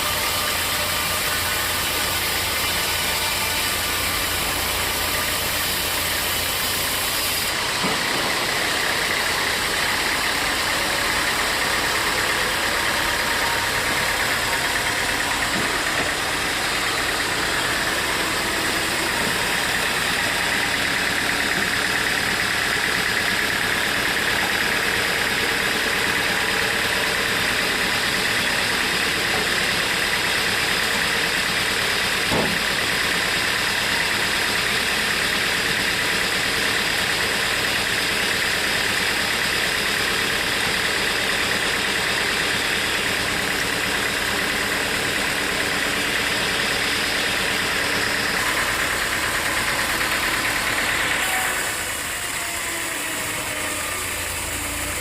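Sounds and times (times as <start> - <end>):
sawmill saw hissing: 0.0 - 55.0.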